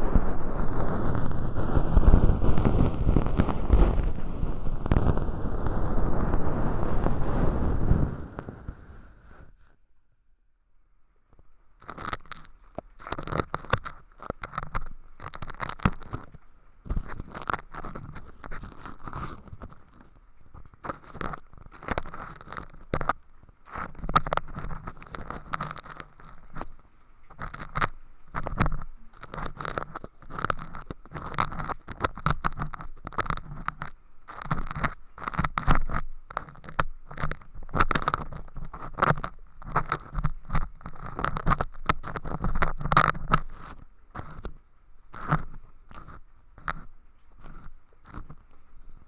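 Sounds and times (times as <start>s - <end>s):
ear pick scratching through flakes: 0.0s - 9.6s, 11.8s - 48.5s.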